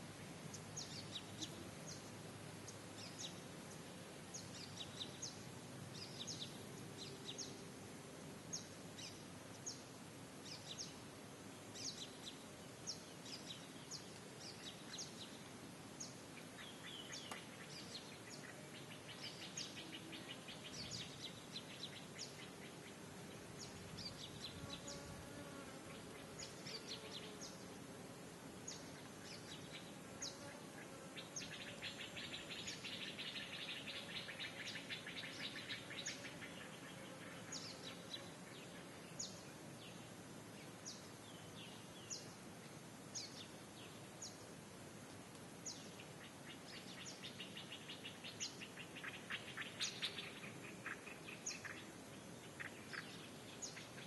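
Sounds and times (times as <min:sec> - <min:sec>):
small birds chirping: 0:00.1 - 0:07.8, 0:08.4 - 0:27.9, 0:28.5 - 0:54.0.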